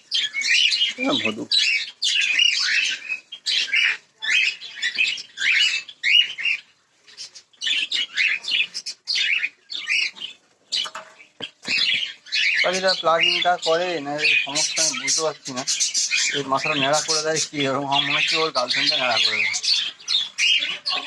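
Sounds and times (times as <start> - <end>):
caged birds chirping: 0.0 - 21.0.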